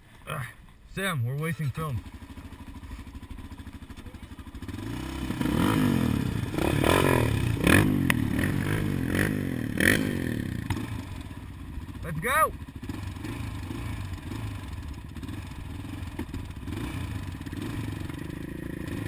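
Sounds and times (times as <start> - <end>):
atv engine revving: 0.2 - 19.0.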